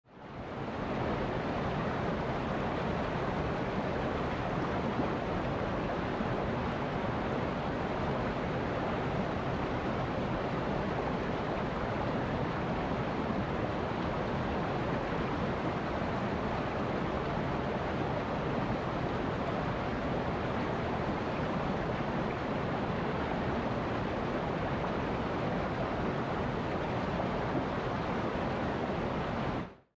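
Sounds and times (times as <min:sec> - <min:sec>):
stream rushing over rocks: 0:00.2 - 0:29.8.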